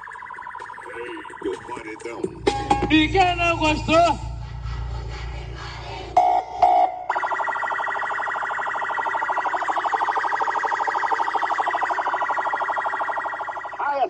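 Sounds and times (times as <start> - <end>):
rapidly pulsing alarm-like buzz: 0.0 - 13.9.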